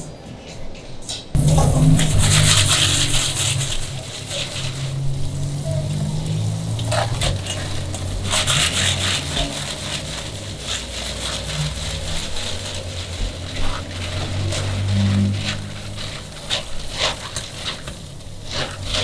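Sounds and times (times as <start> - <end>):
steady low hum: 1.4 - 19.0.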